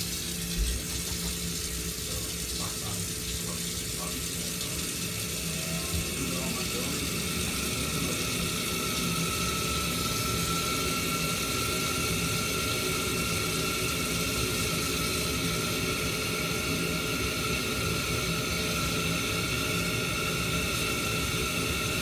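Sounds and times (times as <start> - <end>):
thin steady whine: 0.0 - 22.0
water flowing through boiler: 0.0 - 22.0.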